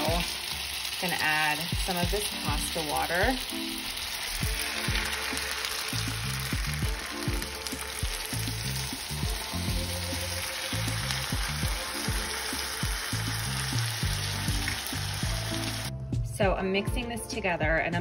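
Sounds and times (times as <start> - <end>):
food sizzling in frying pan: 0.0 - 15.9.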